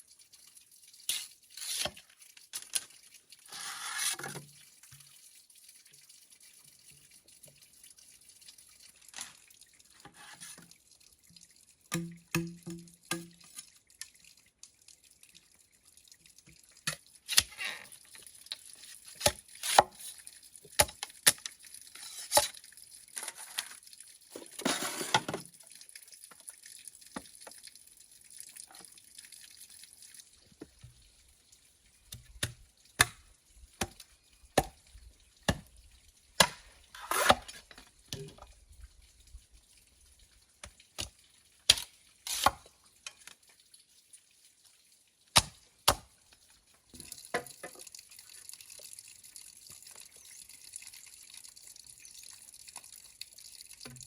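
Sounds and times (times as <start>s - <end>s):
water dripping and splashing: 0.0s - 54.0s.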